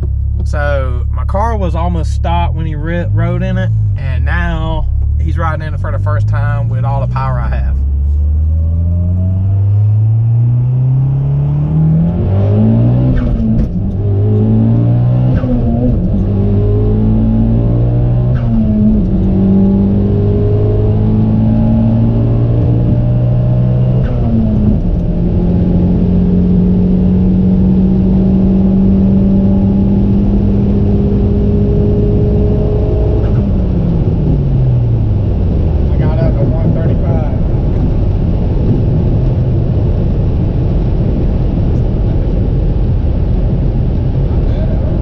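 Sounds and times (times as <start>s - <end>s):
turbocharged car engine accelerating: 0.0s - 45.0s.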